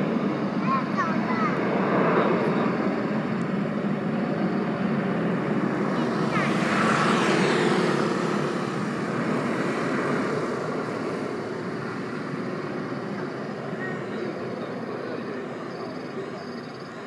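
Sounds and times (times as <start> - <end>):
jet engines at takeoff thrust: 0.0 - 17.0.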